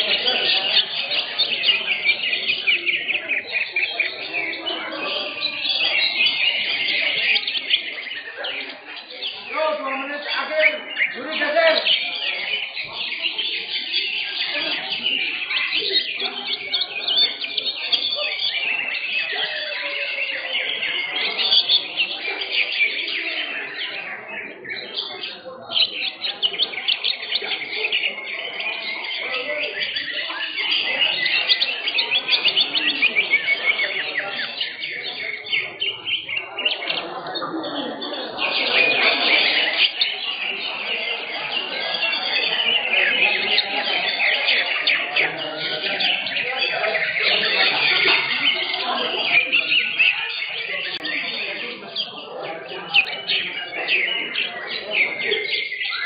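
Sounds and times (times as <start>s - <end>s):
crowd voices: 0.0s - 56.0s
many birds chirping and warbling: 0.0s - 56.0s.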